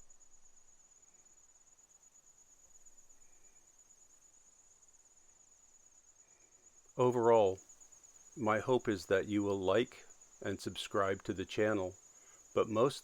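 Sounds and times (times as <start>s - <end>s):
faint insect trill: 0.0s - 13.0s.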